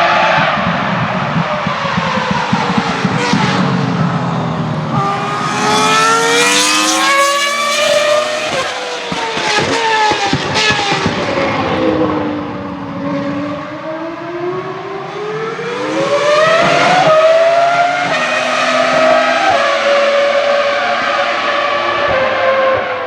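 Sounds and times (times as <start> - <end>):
racing car engine accelerating: 0.1 - 23.0.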